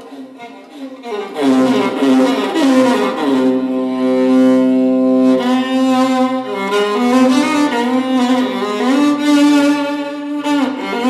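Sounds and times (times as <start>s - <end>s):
solo violin melody: 0.0s - 11.0s.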